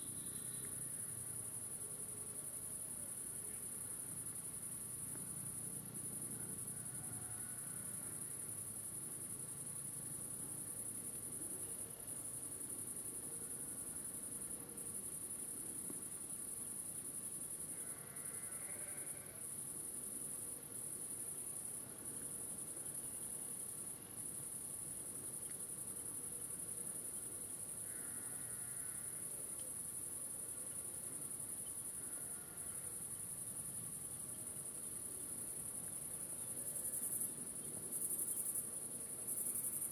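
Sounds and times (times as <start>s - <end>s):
crickets stridulating: 0.0s - 39.9s.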